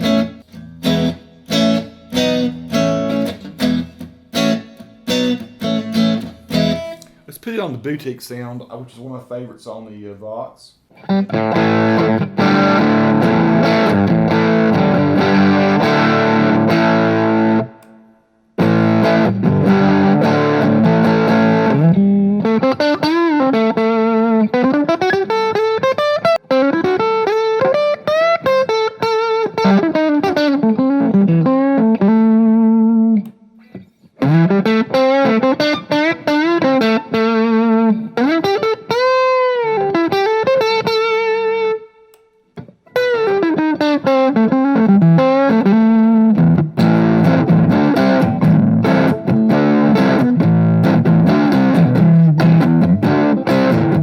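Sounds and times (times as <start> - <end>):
electric guitar lead lines with bends: 0.0 - 7.3, 10.9 - 54.0
electric guitar strumming chords: 0.0 - 7.3, 10.9 - 54.0.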